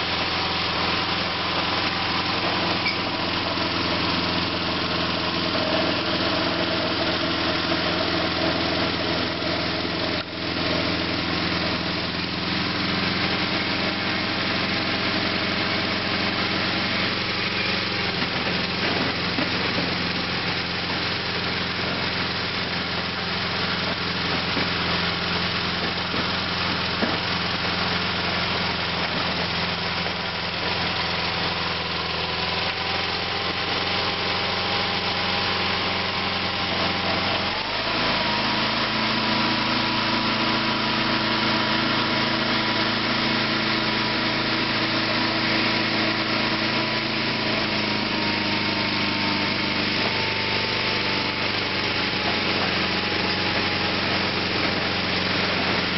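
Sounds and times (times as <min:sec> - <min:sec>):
garden tractor engine running: 0:00.0 - 0:55.9.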